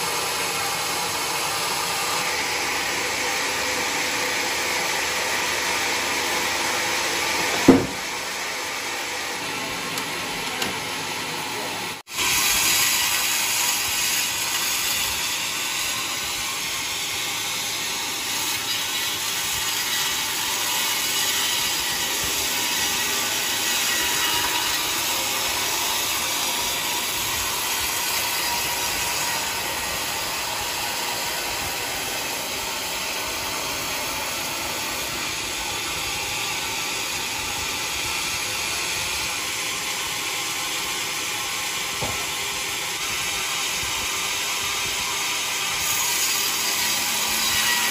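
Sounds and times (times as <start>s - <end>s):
sawmill blade cutting log: 0.0s - 47.9s.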